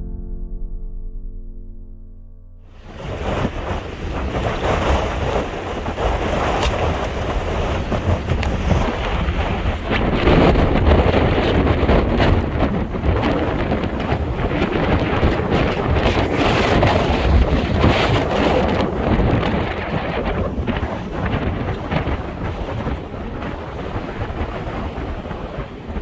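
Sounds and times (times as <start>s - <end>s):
wind buffeting microphone: 2.7s - 26.0s.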